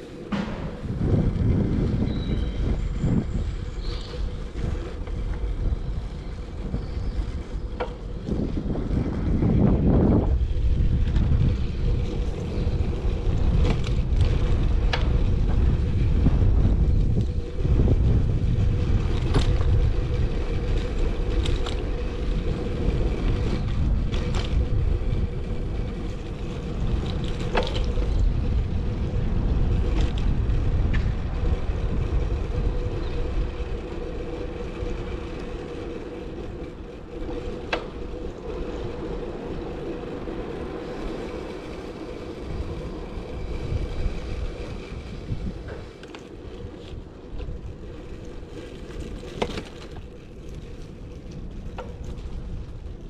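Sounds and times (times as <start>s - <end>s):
low rumble: 0.0s - 49.3s
wind buffeting microphone: 0.0s - 53.0s.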